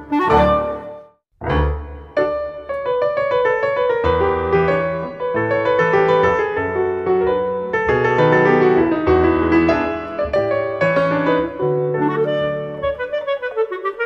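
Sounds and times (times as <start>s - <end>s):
instrumental piano music: 0.0s - 14.0s.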